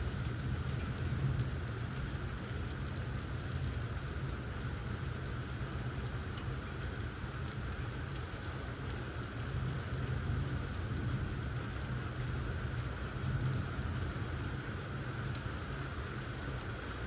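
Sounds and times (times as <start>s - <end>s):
steady rainfall hiss: 0.0s - 17.0s.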